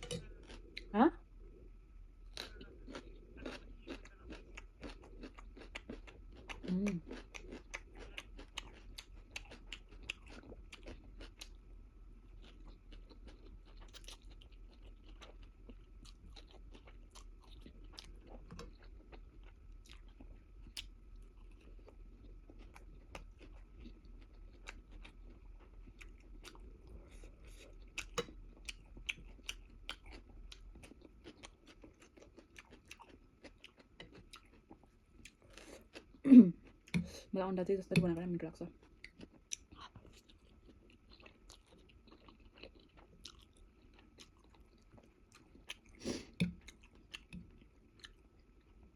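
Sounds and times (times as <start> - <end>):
person chewing with mouth clicks: 2.3 - 11.6, 12.3 - 37.2, 38.8 - 48.6.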